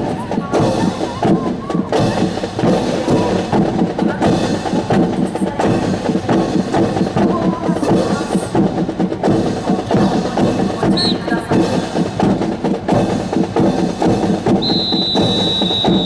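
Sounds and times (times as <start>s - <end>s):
drum beats: 0.0s - 16.0s.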